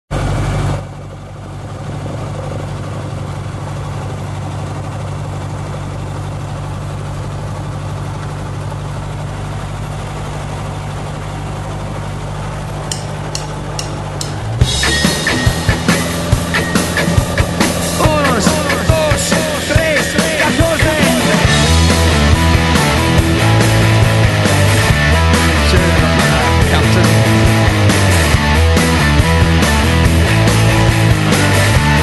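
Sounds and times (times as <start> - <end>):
propeller plane engine running: 0.1 - 32.0.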